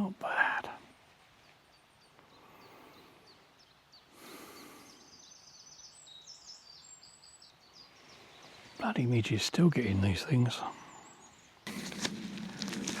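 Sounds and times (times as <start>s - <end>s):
faint woodland birdsong: 0.0s - 13.0s.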